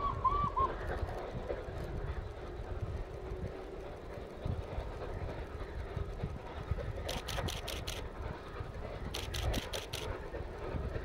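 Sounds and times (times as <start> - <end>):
distant train running: 0.0 - 11.0
low gusty rumble: 0.0 - 11.0.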